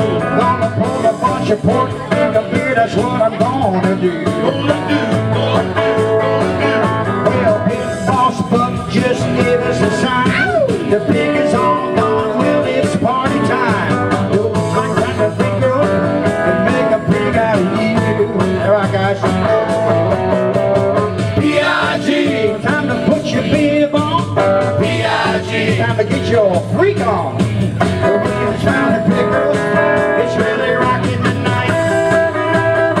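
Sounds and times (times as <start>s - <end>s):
people singing into microphones: 0.0s - 5.9s, 7.1s - 19.2s, 21.2s - 26.7s, 27.9s - 32.1s
electric guitar: 0.0s - 33.0s
upbeat rock and roll band: 0.0s - 33.0s.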